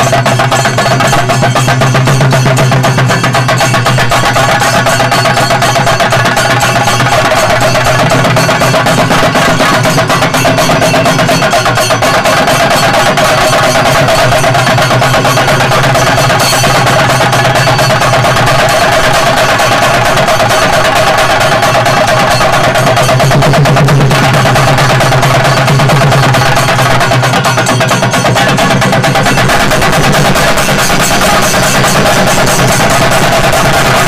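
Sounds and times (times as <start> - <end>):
cymbals: 0.0 - 34.0
drums played rapidly: 0.0 - 34.0
steady held tone: 0.0 - 34.0.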